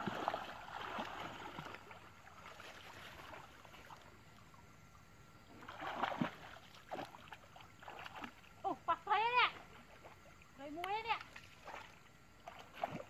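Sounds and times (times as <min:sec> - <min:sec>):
people wading through water: 0:00.0 - 0:13.0.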